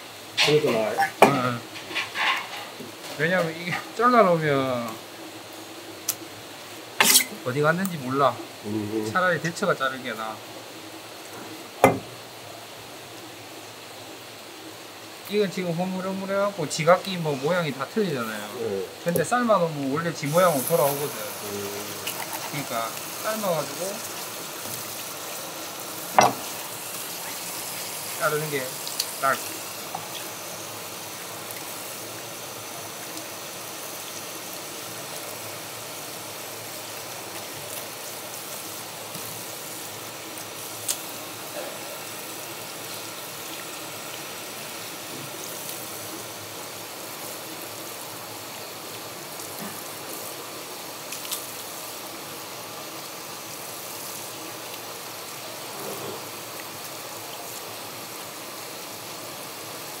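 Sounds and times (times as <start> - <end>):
running water rushing: 0.0 - 60.0.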